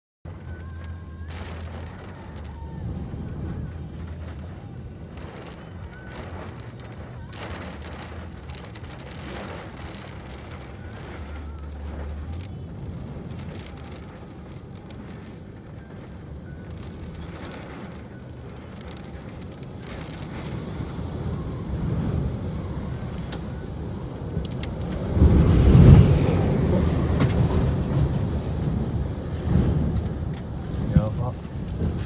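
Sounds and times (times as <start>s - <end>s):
gusting wind rumbling on microphone: 0.3s - 32.0s.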